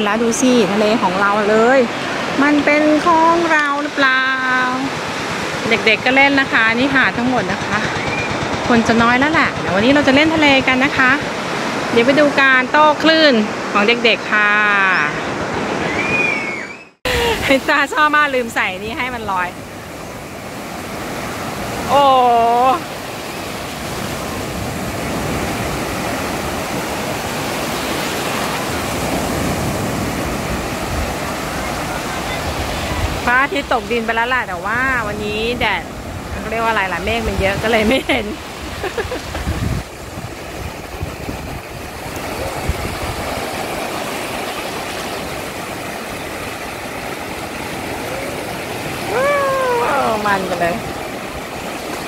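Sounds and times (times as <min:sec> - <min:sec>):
waves breaking in shallows: 0:00.0 - 0:52.0.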